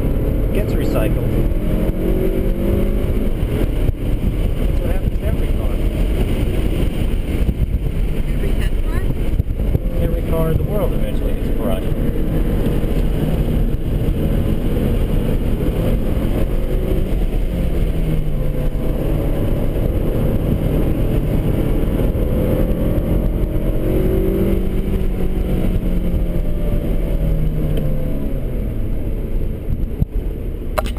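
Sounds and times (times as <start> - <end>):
car engine pulling hard: 0.0 - 30.9.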